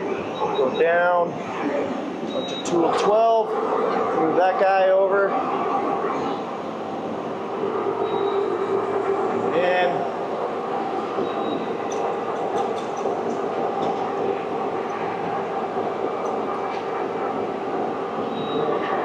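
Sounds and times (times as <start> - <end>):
lathe machinery hum and whir: 0.0 - 19.0.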